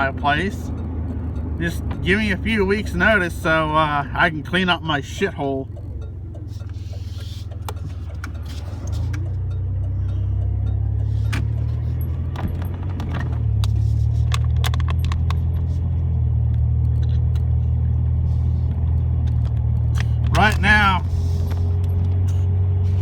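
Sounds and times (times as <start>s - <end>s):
truck engine and road rumble: 0.0s - 23.0s.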